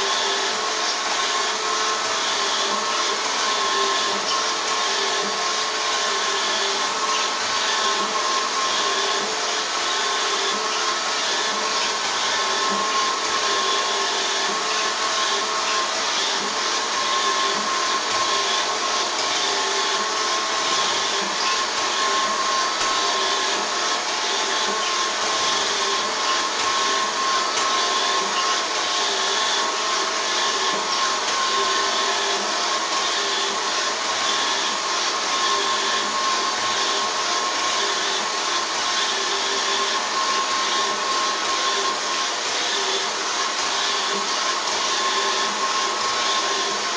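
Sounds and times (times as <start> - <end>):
robot vacuum cleaner whirring: 0.0 - 46.9.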